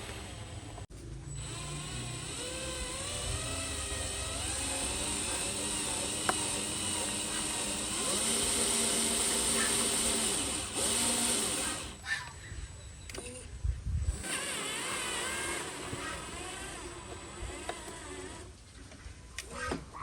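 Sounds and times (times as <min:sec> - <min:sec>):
electric motor and gears whining: 0:00.0 - 0:12.4, 0:13.1 - 0:18.6.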